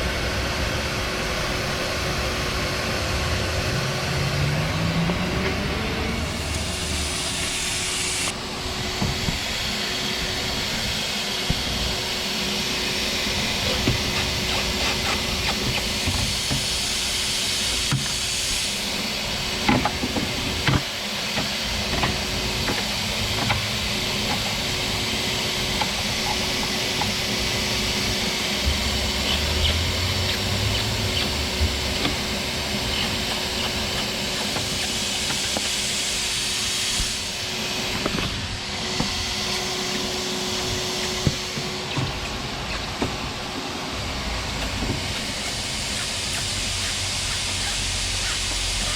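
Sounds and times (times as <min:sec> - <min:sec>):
shop vac blowing air: 0:00.0 - 0:48.9.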